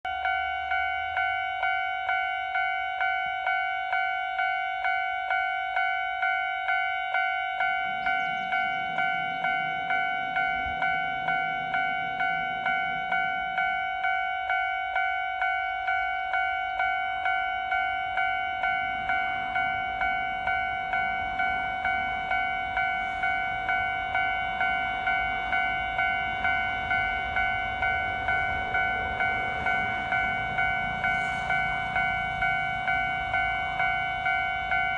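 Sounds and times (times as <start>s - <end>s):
diesel railcar rumble: 0.0s - 34.9s
level crossing warning bell: 0.0s - 34.9s.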